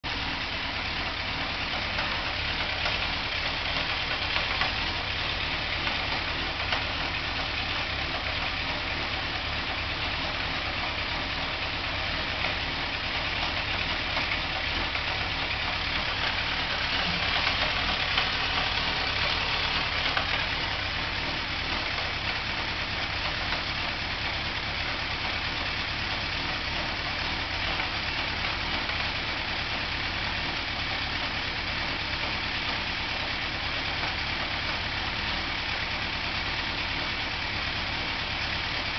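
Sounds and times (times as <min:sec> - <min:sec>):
motorcycle engine idling with rattle: 0:00.0 - 0:38.9.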